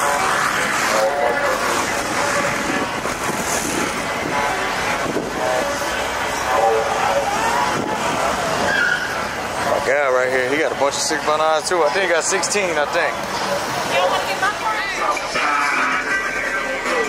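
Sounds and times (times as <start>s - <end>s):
people talking: 0.0s - 8.7s, 9.5s - 17.0s
cars in parking lot: 0.0s - 17.0s.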